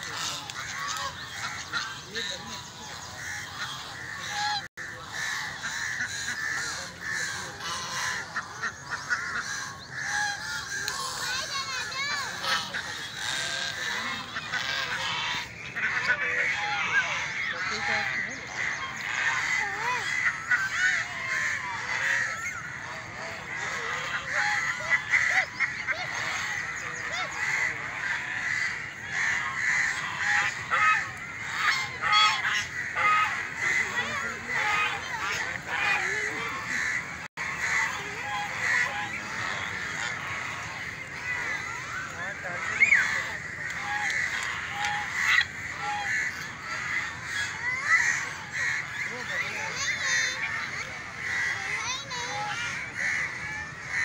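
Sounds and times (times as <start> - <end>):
geese honking: 0.0 - 54.0.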